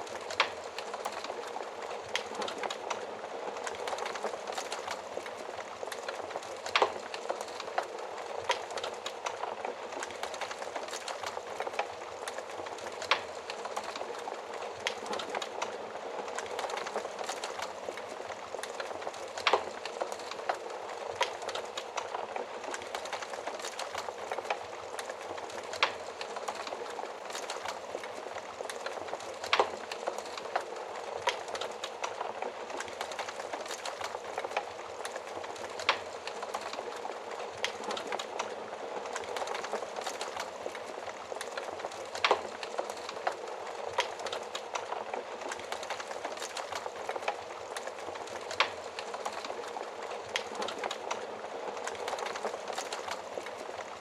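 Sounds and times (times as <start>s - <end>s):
burning wood crackling and popping: 0.0s - 54.0s
flames hissing in a stove: 0.0s - 54.0s.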